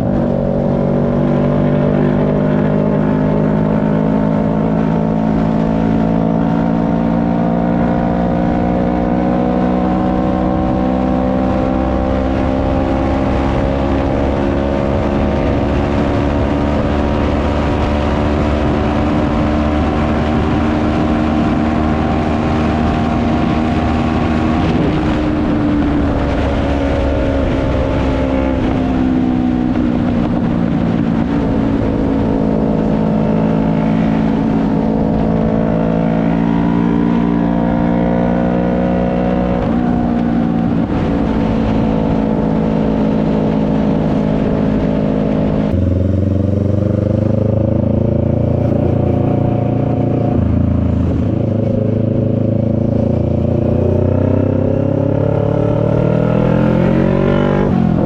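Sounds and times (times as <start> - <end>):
wind rush: 0.0 - 58.0.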